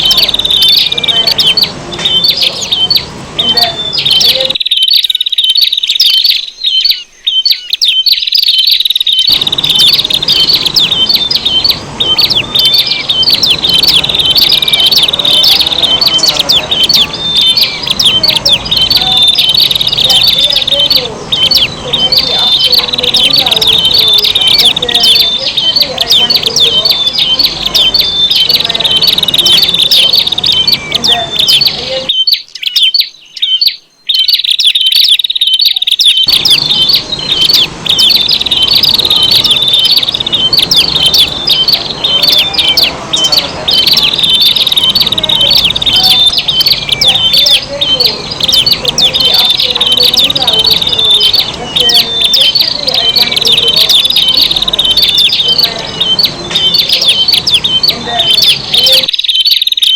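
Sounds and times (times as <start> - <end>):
prinia bird calls and chattering song: 0.0 - 59.9.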